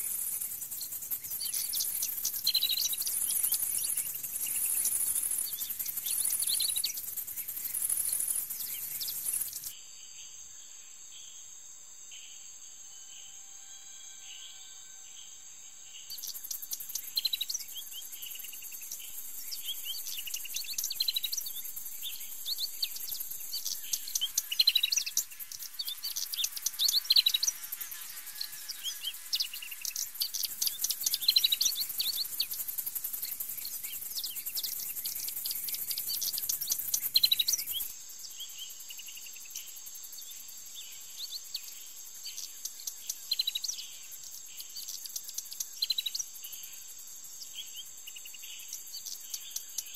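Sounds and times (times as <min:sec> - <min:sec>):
small birds chirping: 0:00.0 - 0:11.5, 0:15.9 - 0:49.9
high insect buzz: 0:00.0 - 0:49.9
insect trill: 0:00.0 - 0:49.9.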